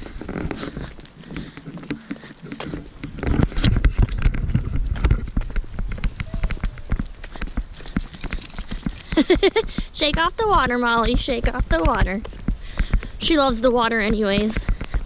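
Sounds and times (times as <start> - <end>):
footsteps on paved road: 0.0 - 15.0.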